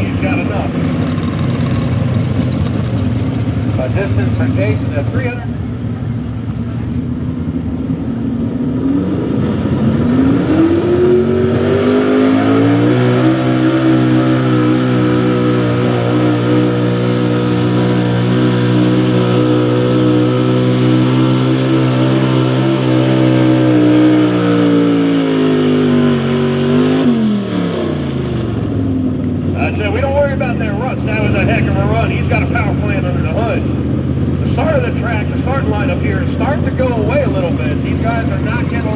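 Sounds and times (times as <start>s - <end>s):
truck engine at full throttle: 0.0s - 38.9s.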